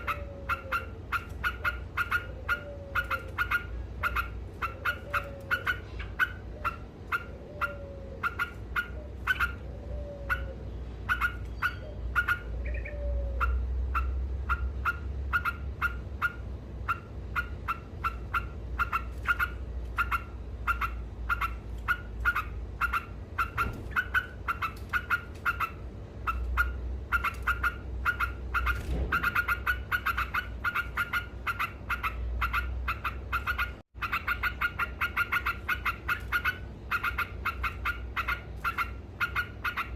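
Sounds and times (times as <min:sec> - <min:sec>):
bird calling in repeated notes: 0:00.0 - 0:39.9.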